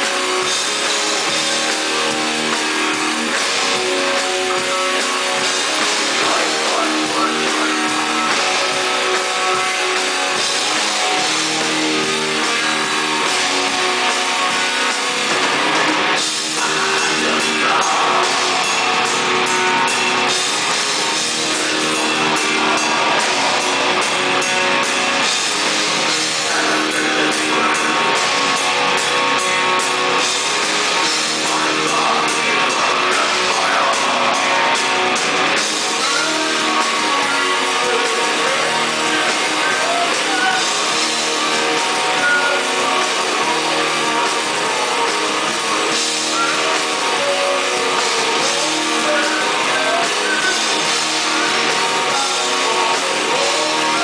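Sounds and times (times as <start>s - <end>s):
metal band playing live: 0.0s - 54.0s.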